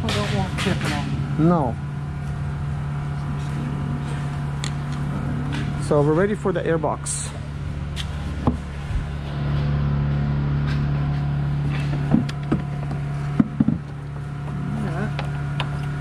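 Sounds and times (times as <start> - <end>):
steady low mechanical hum: 0.0 - 16.0.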